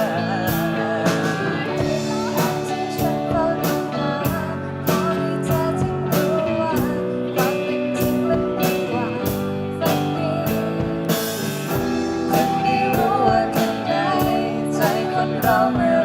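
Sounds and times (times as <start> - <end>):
drum beat with cymbals and snare: 0.0 - 16.0
guitar chords: 0.0 - 16.0
lead guitar bending: 0.0 - 16.0.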